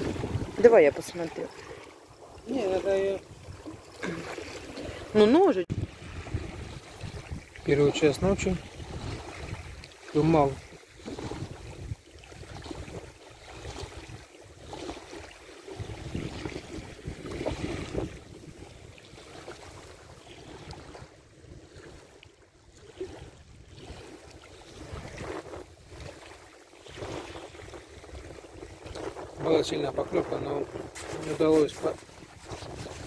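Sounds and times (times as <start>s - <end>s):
wind buffeting microphone: 0.0s - 9.9s, 10.5s - 15.0s, 15.7s - 22.0s, 26.8s - 33.0s.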